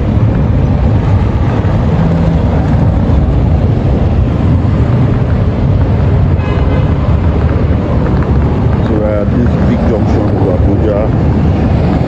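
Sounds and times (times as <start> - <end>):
car road and engine rumble: 0.0 - 12.0
wind buffeting microphone: 0.0 - 12.0.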